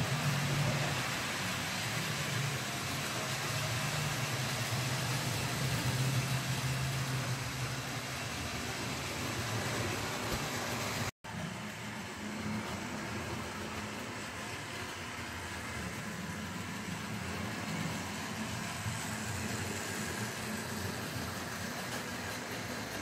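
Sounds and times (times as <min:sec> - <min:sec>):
model train motors whirring: 0:00.0 - 0:23.0.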